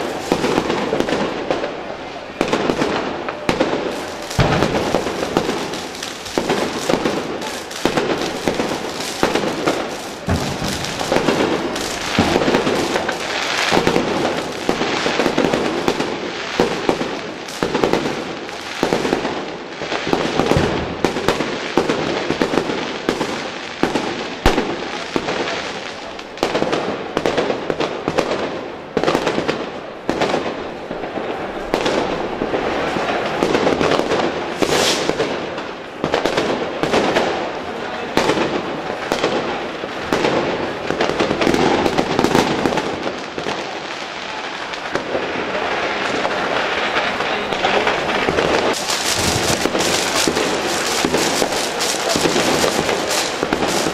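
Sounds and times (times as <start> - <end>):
fireworks bangs and crackling: 0.0 - 53.9
heavy sharp firework reports: 0.0 - 53.9.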